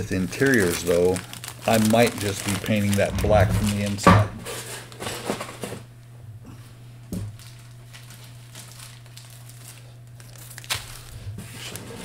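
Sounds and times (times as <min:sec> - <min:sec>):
plastic bag crinkling: 0:00.0 - 0:05.4, 0:07.3 - 0:12.0
steady low hum: 0:00.0 - 0:12.0.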